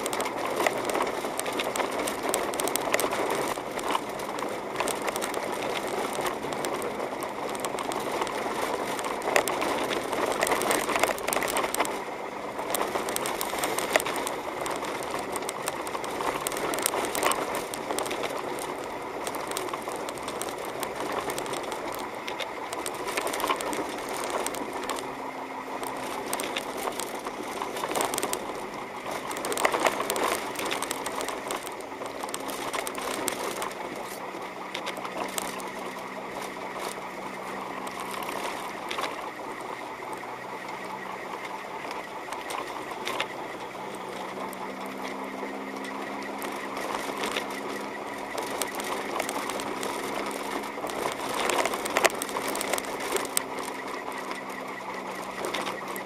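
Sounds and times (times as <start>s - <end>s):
car engine and road noise: 0.0s - 56.0s
tires crackling on snow: 0.0s - 56.0s.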